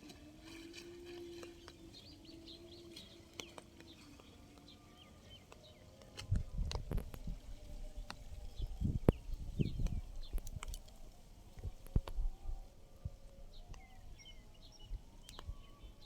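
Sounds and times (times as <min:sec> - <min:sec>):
low steady hum: 0:00.0 - 0:16.0
birds chirping: 0:00.2 - 0:16.0.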